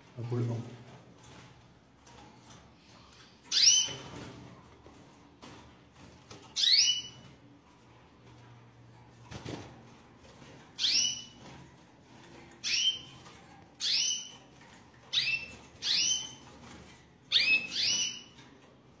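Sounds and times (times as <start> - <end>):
canaries chirping: 2.1 - 8.6, 9.4 - 19.0.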